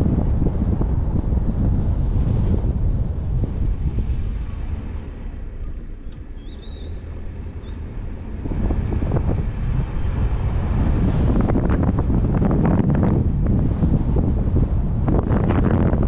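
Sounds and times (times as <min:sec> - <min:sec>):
road and tyre rumble: 0:00.0 - 0:16.0
wind buffeting microphone: 0:00.0 - 0:16.0.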